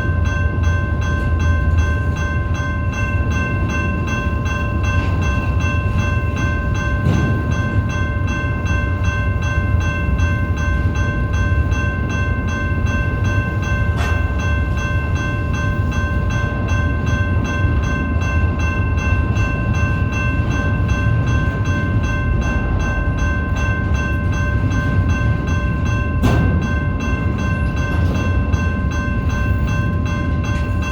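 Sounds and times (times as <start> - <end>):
freight train rumbling past: 0.0 - 30.9
train cars clicking: 0.0 - 30.9.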